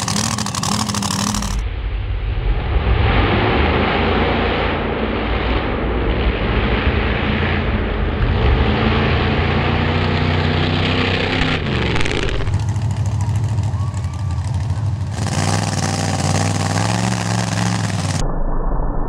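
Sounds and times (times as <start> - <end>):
racing engines at full throttle: 0.0 - 1.7, 2.5 - 18.2.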